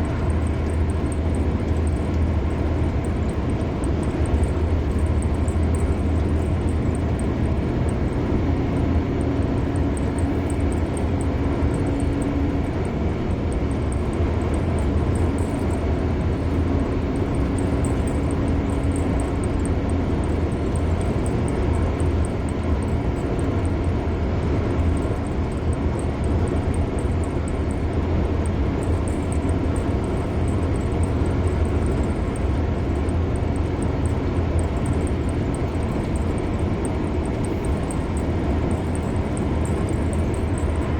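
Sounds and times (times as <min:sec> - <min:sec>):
car road noise at speed: 0:00.0 - 0:40.9.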